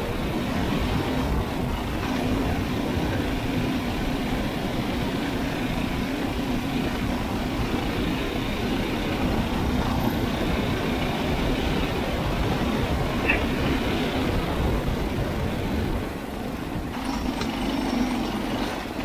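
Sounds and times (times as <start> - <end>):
single-cylinder engine running: 0.0 - 19.0.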